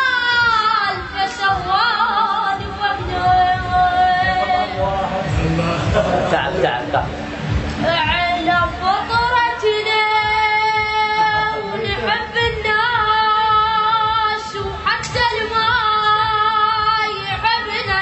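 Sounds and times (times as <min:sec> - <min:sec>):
person singing with vibrato: 0:00.0 - 0:06.1, 0:07.8 - 0:18.0
backing music: 0:00.0 - 0:18.0.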